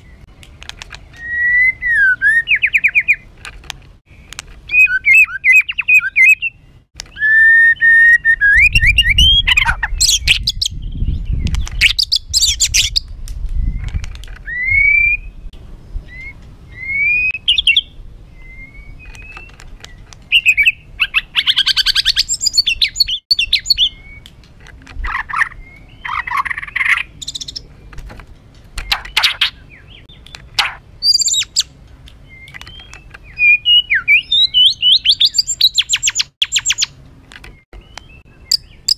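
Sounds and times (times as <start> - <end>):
bird singing harsh song: 0.0 - 3.4, 4.1 - 28.1, 28.7 - 38.9.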